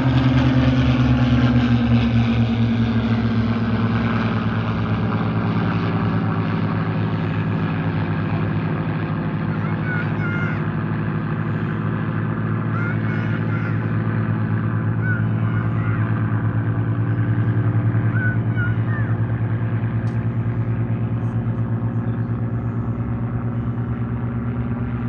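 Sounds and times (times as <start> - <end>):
propeller aircraft engines droning: 0.0 - 25.0.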